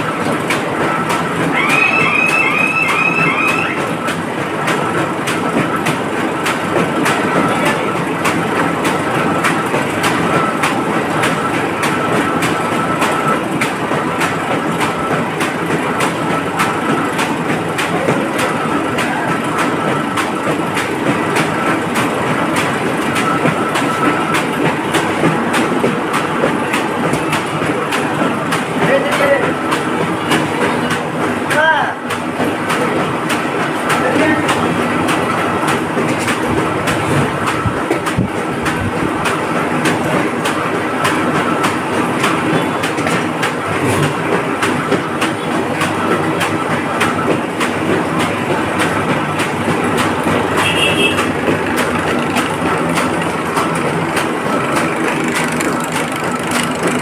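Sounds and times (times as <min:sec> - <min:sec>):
machine clattering with regular clicking: 0:00.0 - 0:57.0.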